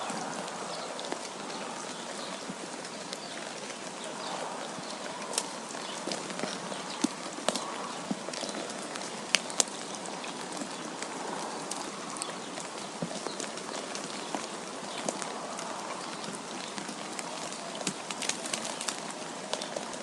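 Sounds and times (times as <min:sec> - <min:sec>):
snow ticking and tapping: 0:00.0 - 0:20.0.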